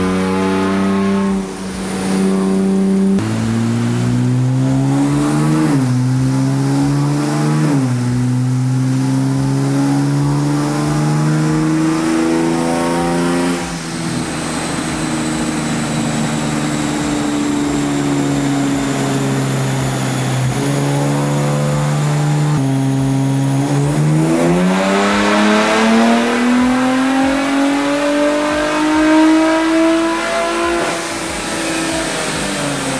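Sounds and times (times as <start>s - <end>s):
car engine revving at full throttle: 0.0s - 32.9s.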